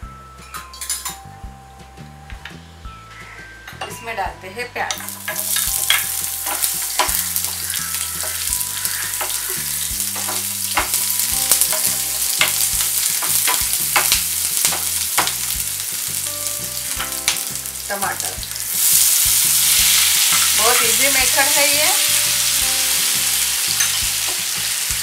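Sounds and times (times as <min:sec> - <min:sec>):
onions sizzling in oil: 0:04.9 - 0:25.0.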